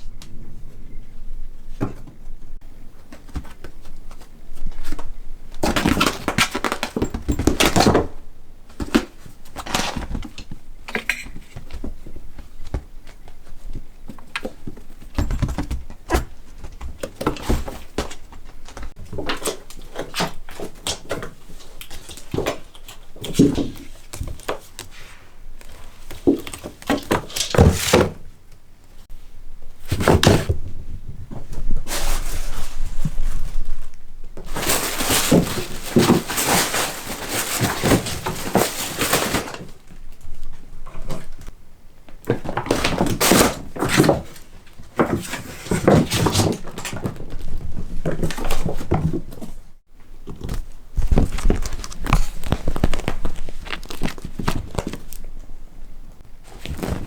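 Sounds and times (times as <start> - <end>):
rustling: 0.0 - 57.0.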